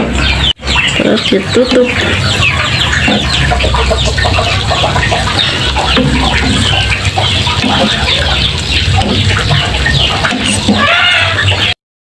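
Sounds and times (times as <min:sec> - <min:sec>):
chickens clucking: 0:00.0 - 0:11.8
chicks peeping: 0:00.0 - 0:11.8
low steady hum: 0:00.0 - 0:11.8.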